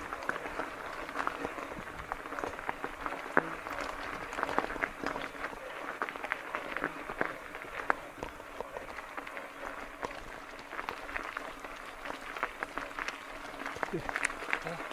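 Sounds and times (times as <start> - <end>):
bike tyres crunching on gravel: 0.0 - 14.9.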